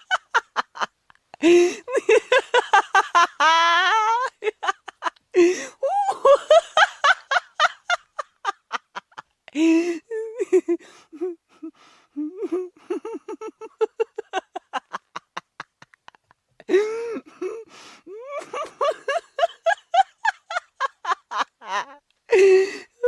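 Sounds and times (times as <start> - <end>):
person laughing high-pitched: 0.0 - 22.7.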